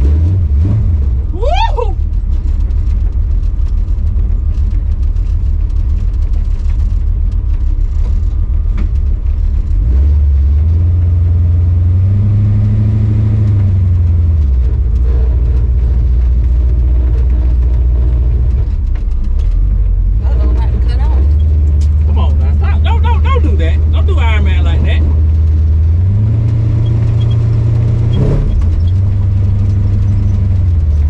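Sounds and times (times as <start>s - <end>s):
pickup truck engine accelerating: 0.0s - 31.0s.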